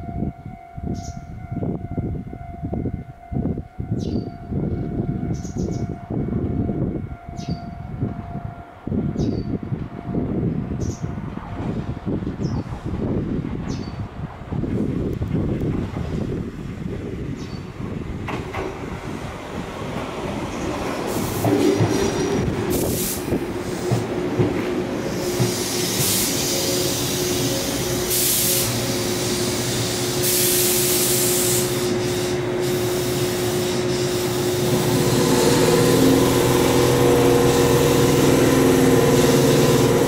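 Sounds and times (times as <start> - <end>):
standing train hum: 0.0 - 40.0
train running noise: 0.0 - 40.0.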